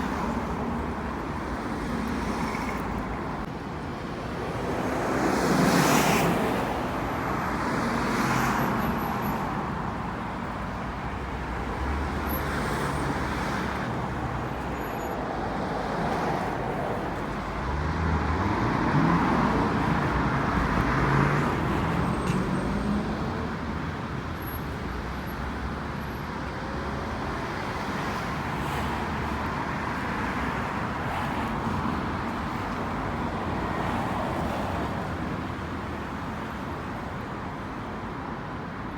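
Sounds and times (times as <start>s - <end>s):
road traffic hum: 0.0s - 38.9s
vehicles passing: 0.0s - 38.9s.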